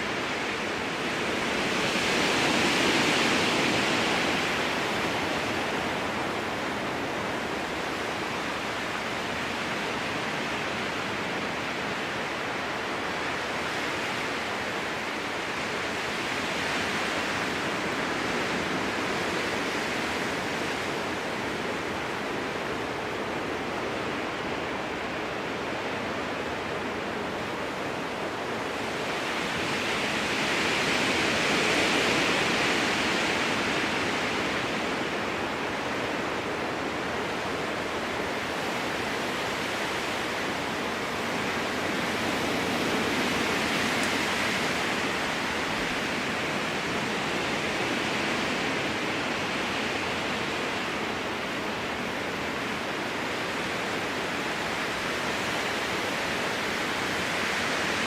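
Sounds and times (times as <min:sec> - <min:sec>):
strong wind rushing through trees: 0:00.0 - 0:58.0.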